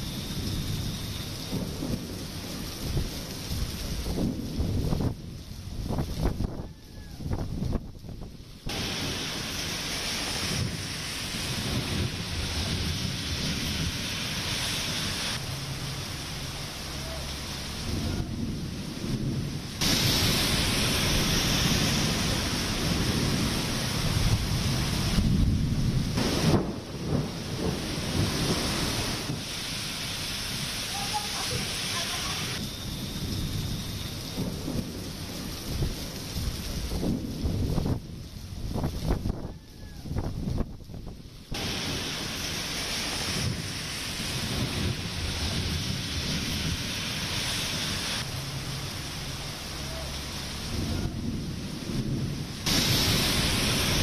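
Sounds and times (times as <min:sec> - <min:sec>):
rain falling: 0:00.0 - 0:54.0
wind rumbling on microphone: 0:00.0 - 0:54.0.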